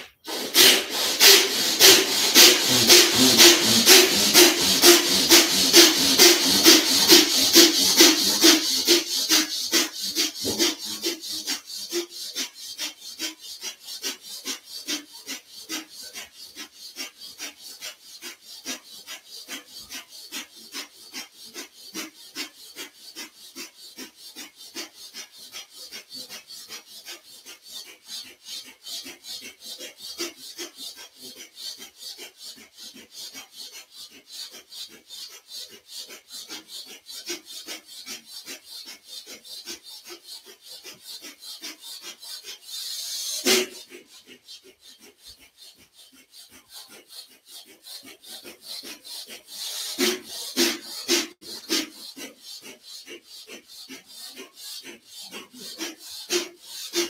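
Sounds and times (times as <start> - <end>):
person breathing rapidly through nose: 0.0 - 57.0.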